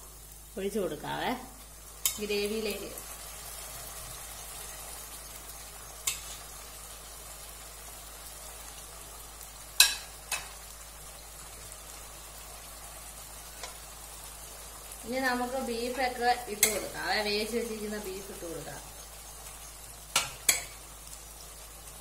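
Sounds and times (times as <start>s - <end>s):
masala sizzling in a pan: 0.0s - 22.0s.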